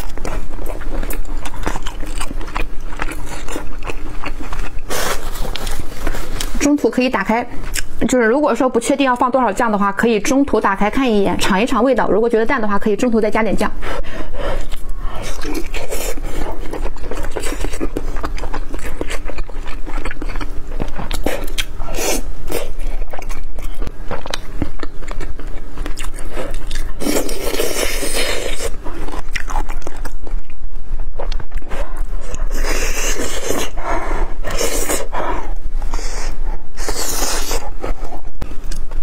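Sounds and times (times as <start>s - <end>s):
biting and chewing food: 0.0s - 6.6s, 14.0s - 39.0s.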